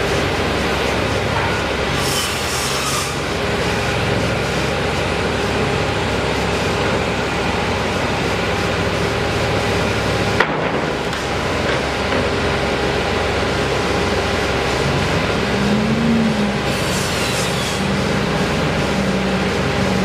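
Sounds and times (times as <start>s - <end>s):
machinery and traffic noise: 0.0s - 20.0s.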